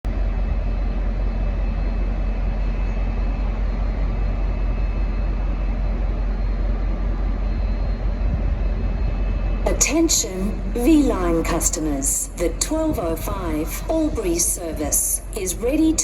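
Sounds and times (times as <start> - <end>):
diesel locomotive idling: 0.1 - 16.0
faint high whine: 0.1 - 16.0.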